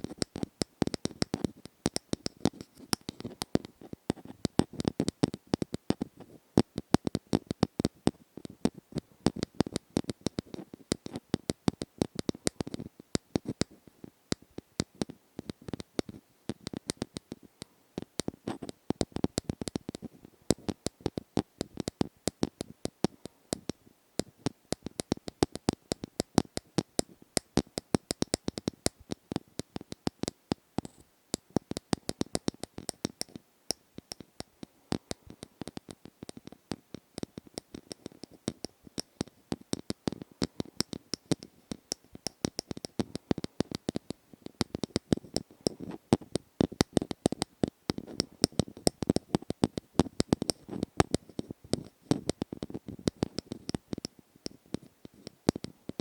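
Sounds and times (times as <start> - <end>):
rapid asmr tapping and clicks: 0.0 - 56.0.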